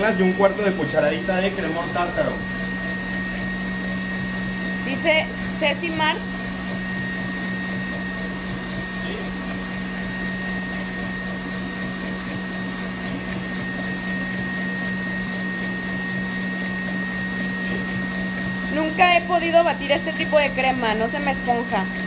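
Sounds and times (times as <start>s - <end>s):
electric mixer running: 0.0s - 22.0s.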